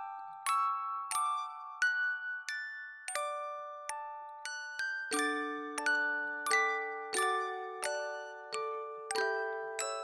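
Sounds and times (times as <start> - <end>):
glockenspiel chords: 0.0 - 10.0.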